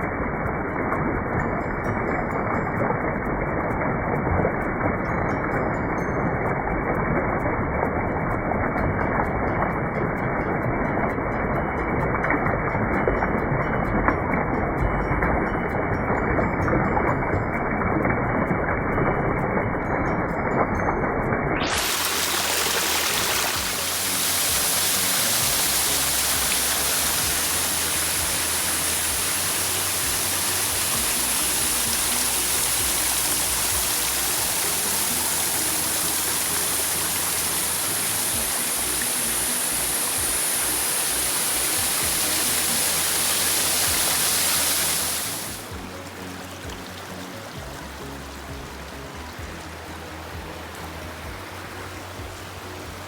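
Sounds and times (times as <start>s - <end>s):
flowing water rushing: 0.0s - 53.0s
quiet background music: 0.0s - 53.0s.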